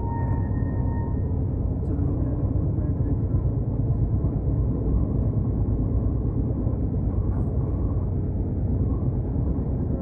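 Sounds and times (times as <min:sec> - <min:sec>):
moving train rumble: 0:00.0 - 0:10.0.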